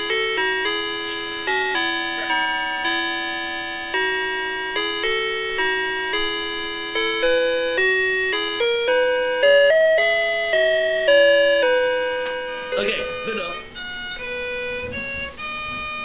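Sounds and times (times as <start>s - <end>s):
electronic chime melody: 0.0s - 16.0s.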